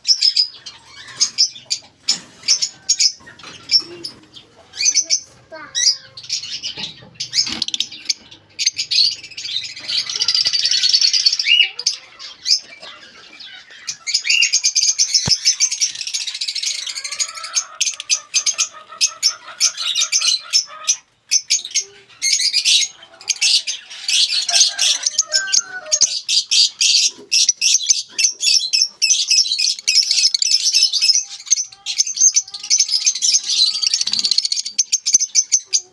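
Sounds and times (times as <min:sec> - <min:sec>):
lovebirds chirping and squawking: 0:00.0 - 0:35.9.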